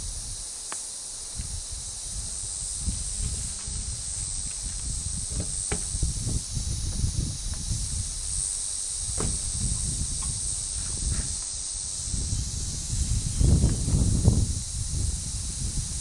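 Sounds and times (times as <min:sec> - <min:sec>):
wind on microphone: 0:00.0 - 0:00.5, 0:01.3 - 0:16.0
insects hissing: 0:00.0 - 0:16.0.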